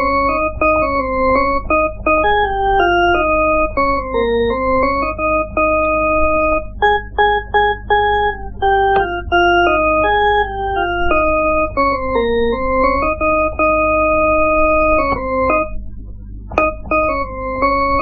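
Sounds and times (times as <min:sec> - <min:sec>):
slow organ melody: 0:00.0 - 0:18.0
steady low hum: 0:00.0 - 0:18.0.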